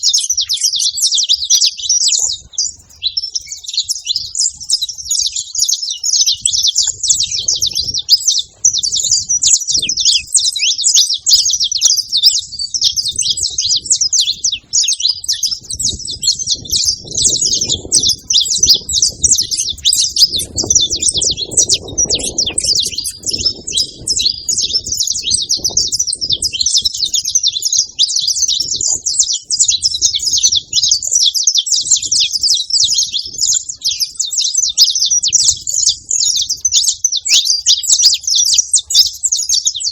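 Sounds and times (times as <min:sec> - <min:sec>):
finches chirping and twittering: 0:00.0 - 0:39.9.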